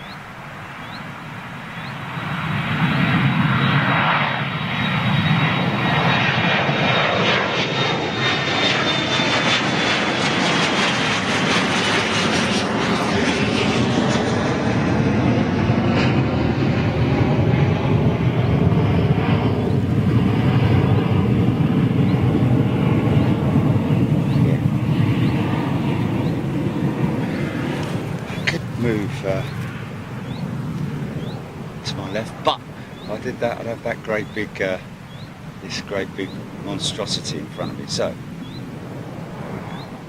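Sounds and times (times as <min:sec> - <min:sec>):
high engine whine: 0:00.0 - 0:40.0
jet engines roaring: 0:00.0 - 0:40.0.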